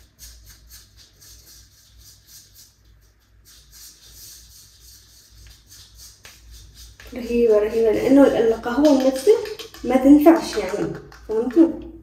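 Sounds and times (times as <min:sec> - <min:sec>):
brush scraping paste in a bowl: 0:00.0 - 0:11.8.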